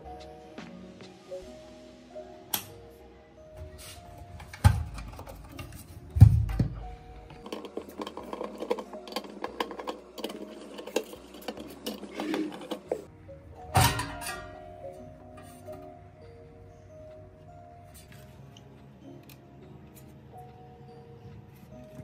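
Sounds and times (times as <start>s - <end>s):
soft background music: 0.0s - 22.0s.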